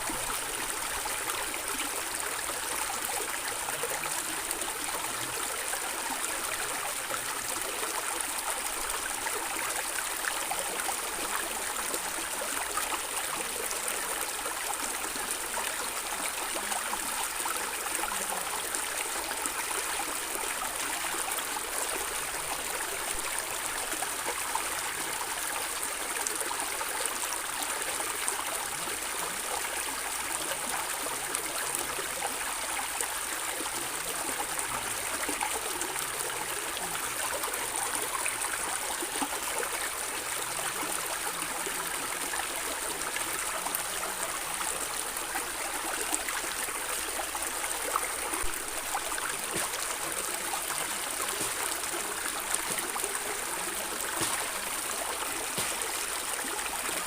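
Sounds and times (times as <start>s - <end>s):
stream water flowing and gurgling: 0.0s - 57.0s.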